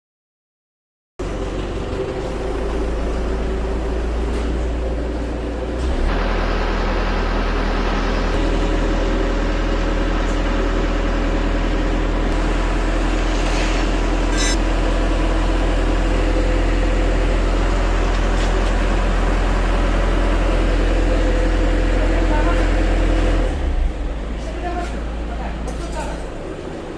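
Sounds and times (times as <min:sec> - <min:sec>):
truck engine running with whine: 0:01.2 - 0:26.9.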